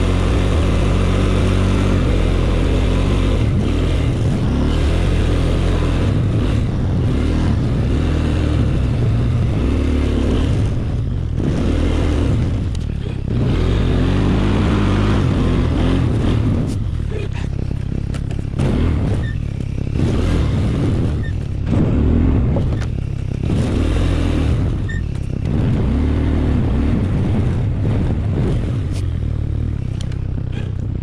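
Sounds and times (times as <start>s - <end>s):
small engine running under load: 0.0s - 31.0s.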